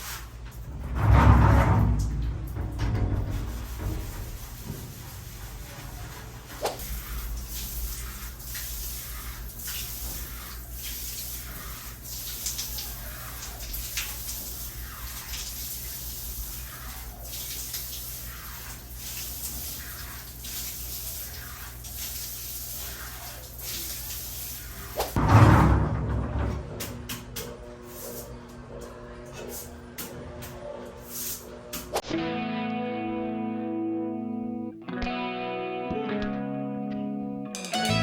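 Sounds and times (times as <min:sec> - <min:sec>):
water splashing and sloshing: 0:00.0 - 0:32.0.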